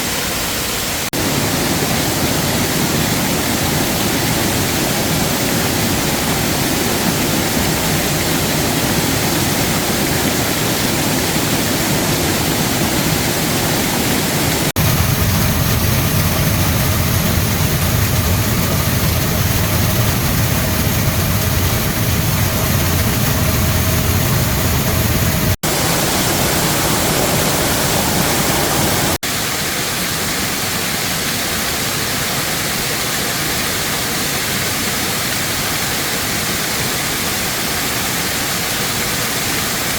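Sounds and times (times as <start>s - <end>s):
rushing falling water: 0.0s - 39.9s.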